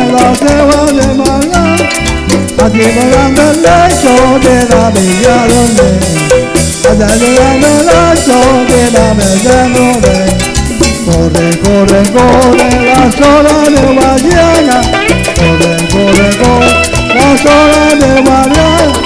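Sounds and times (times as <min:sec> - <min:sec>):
electric guitar melody: 0:00.0 - 0:19.0
latin percussion beat: 0:00.0 - 0:19.0.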